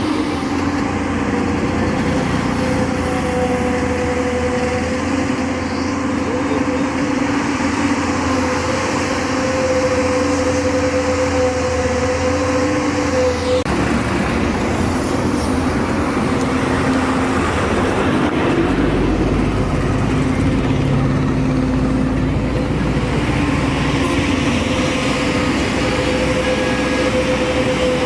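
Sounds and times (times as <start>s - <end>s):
backhoe diesel engine running: 0.0s - 28.0s
steady whine: 0.0s - 28.0s.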